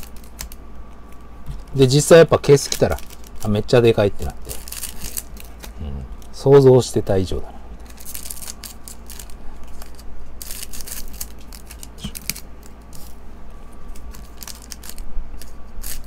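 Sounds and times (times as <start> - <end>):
wrappers crinkling: 0.0 - 6.4, 7.8 - 16.0.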